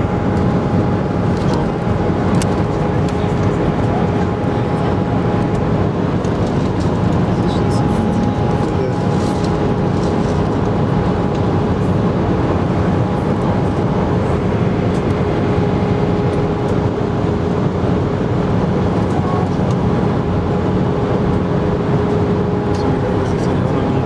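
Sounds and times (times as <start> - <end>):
jet engine and airflow noise: 0.0 - 24.0.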